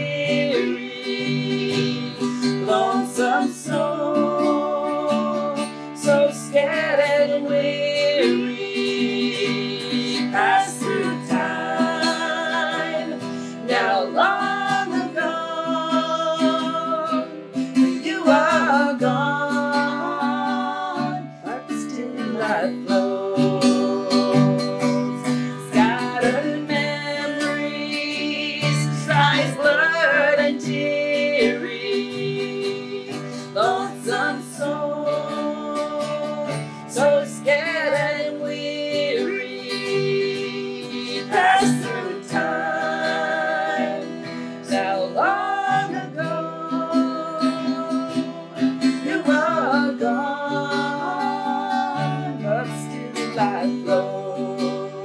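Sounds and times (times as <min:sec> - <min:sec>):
strummed acoustic guitar: 0:00.0 - 0:55.0
women singing: 0:00.0 - 0:55.0.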